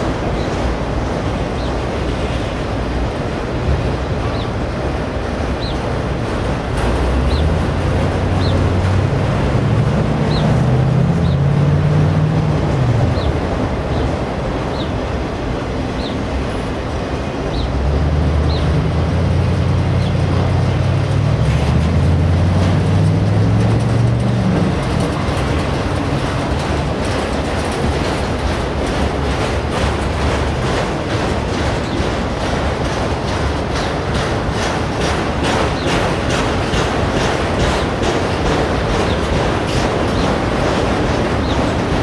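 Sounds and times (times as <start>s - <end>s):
rumble of train wheels on rail: 0.0s - 42.0s
wheels clickety-clack: 0.0s - 42.0s.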